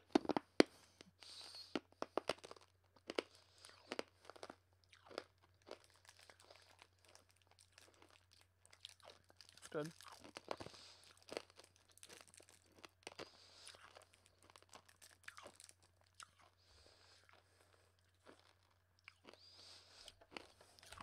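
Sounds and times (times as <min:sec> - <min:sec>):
hard candy crunching: 0:00.0 - 0:21.0.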